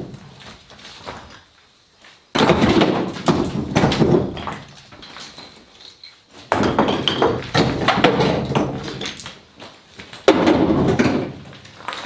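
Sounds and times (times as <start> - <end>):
concrete chunks clattering into truck bed: 2.3 - 12.0.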